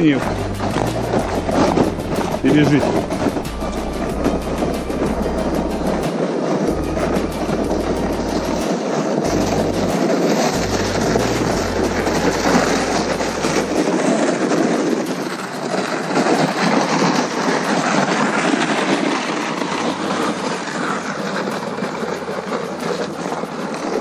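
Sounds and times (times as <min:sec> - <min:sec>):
footsteps crunching on snow: 0:00.0 - 0:24.0
plastic sled scraping over snow: 0:00.0 - 0:24.0.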